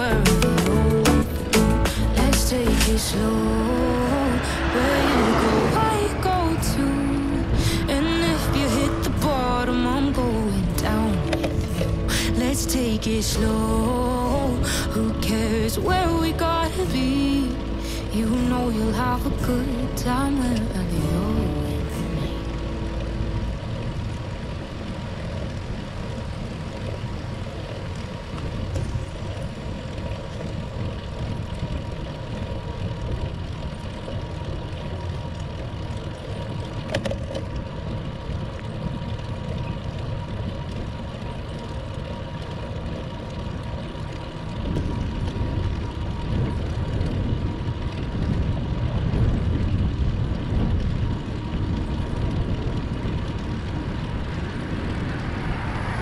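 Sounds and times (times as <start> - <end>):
bicycle road noise: 0.0 - 56.0
wind buffeting microphone: 3.1 - 17.0, 23.1 - 56.0.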